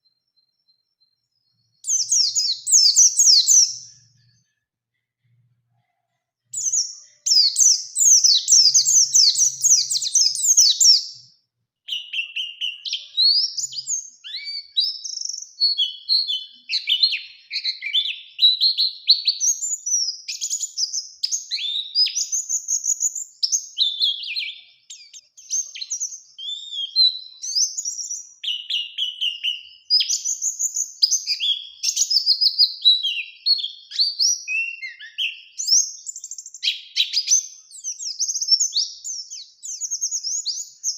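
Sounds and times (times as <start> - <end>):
bird singing rapid chirps and trills: 0.0 - 4.4, 6.5 - 11.3, 11.9 - 40.9.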